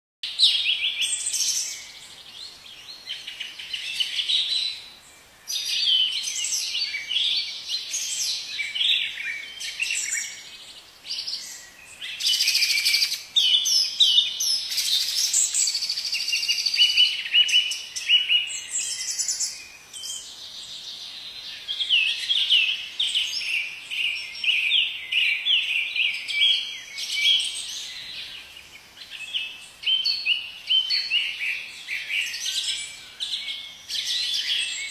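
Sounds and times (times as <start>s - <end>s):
songbirds chirping and singing: 0.2s - 34.9s.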